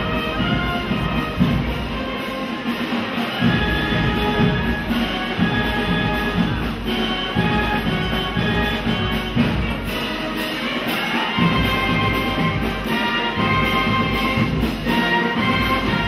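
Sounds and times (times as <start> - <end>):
brass band with drums: 0.0 - 16.0.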